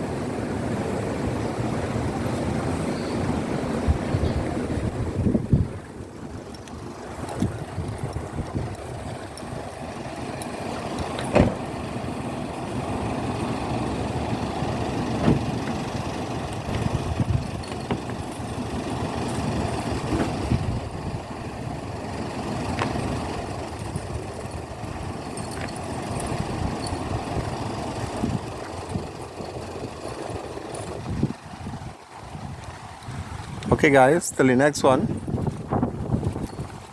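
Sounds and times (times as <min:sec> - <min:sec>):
boat motor running: 0:00.1 - 0:33.8.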